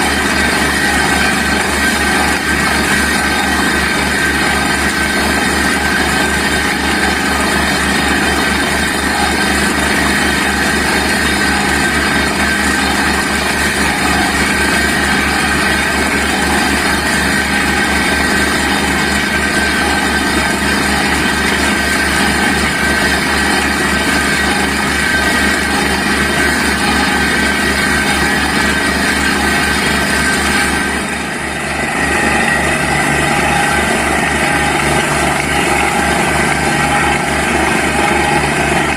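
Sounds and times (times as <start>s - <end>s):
air compressor running: 0.0s - 38.9s
drilling rig engine: 0.0s - 38.9s.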